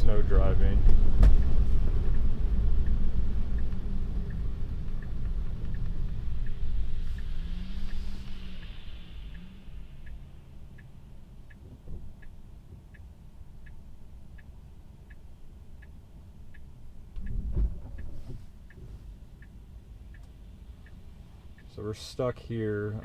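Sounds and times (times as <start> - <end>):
low car rumble: 0.0 - 23.0
car indicator ticking: 0.4 - 21.8.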